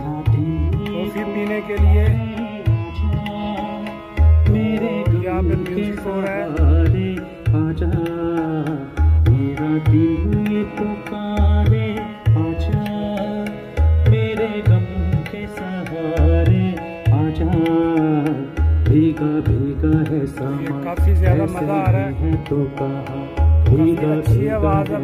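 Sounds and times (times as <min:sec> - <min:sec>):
electronic keyboard with drum beat: 0:00.0 - 0:25.0
man singing into microphone: 0:00.0 - 0:25.0.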